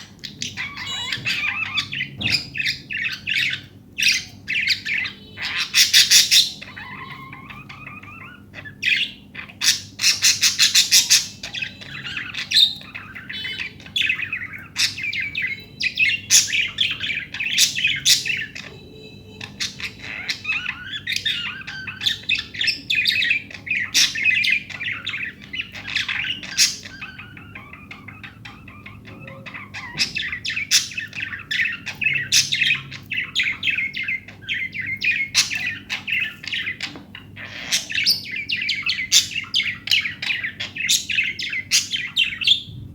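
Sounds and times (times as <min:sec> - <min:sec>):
budgerigars chirping and warbling: 0:00.0 - 0:42.9.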